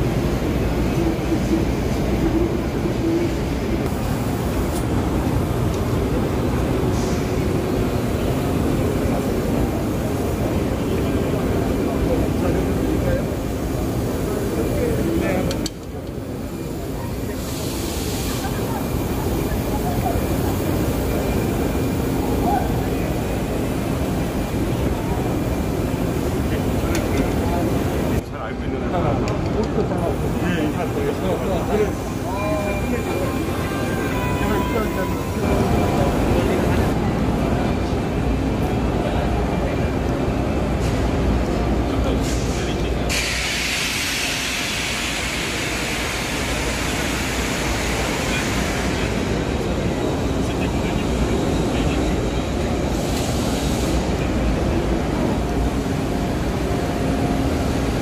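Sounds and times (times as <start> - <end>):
machines and ventilation rumbling: 0.0 - 58.0.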